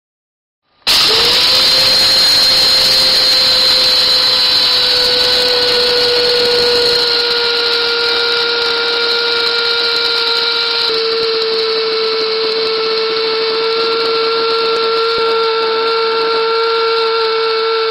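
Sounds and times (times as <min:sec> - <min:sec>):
coffee grinder motor whine: 0:00.9 - 0:17.9.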